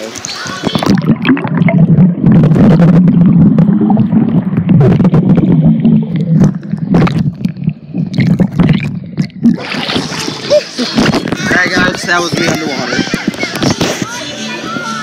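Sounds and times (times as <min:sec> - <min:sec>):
underwater churning water rumble: 0:00.0 - 0:12.5
bubbling clicks and knocks: 0:00.1 - 0:14.1.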